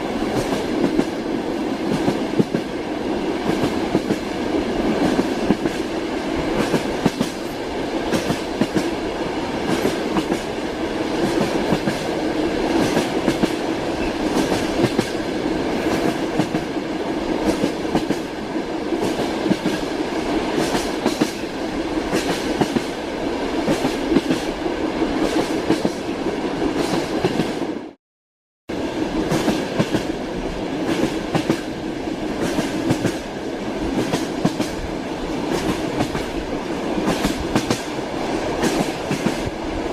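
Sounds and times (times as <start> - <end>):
train wheels clattering on track: 0.1 - 23.0, 23.6 - 24.6, 25.2 - 26.1, 26.7 - 27.6, 29.2 - 39.7.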